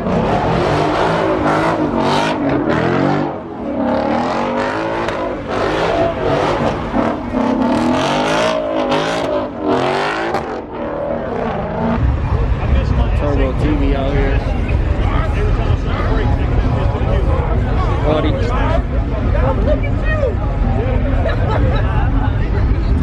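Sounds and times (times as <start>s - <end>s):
car engine revving: 0.0s - 20.8s.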